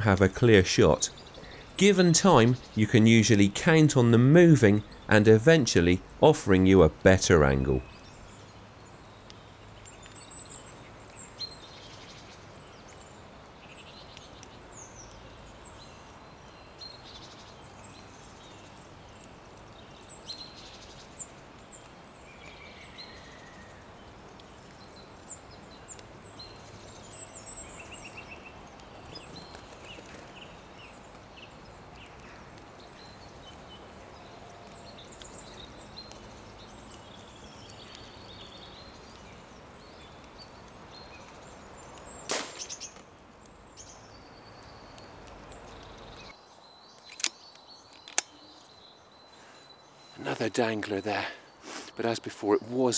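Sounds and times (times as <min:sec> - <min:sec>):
small birds chirping: 0:00.0 - 0:52.9
steady low background noise: 0:00.0 - 0:52.9.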